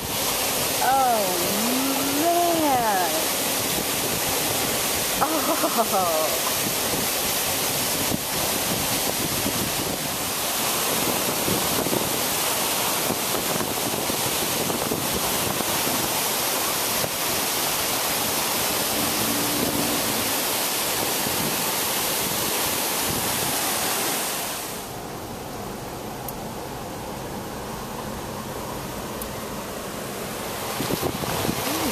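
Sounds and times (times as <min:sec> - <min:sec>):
waterfall rushing: 0:00.0 - 0:25.0, 0:30.2 - 0:31.9.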